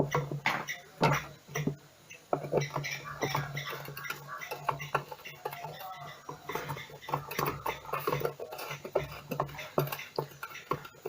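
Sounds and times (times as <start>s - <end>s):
hand tools clicking on metal: 0.0s - 11.0s.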